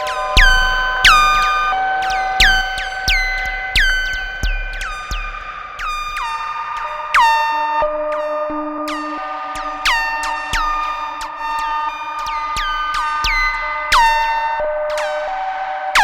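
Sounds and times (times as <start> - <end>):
plucked synthesizer notes: 0.0 - 15.0.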